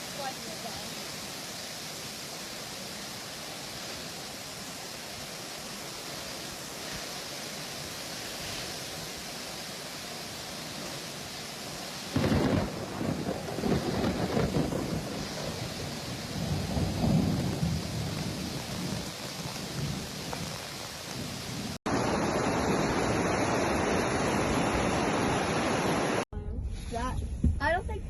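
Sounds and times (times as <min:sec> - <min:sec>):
floodwater rushing: 0:00.0 - 0:26.2.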